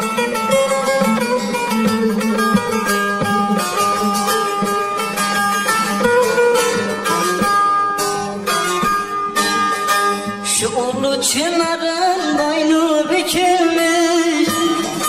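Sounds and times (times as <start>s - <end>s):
plucked string folk melody: 0.0s - 15.0s.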